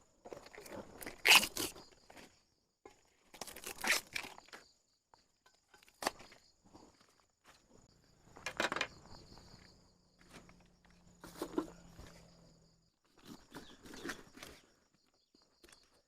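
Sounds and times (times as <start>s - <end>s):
insects chirping: 0.3s - 16.0s.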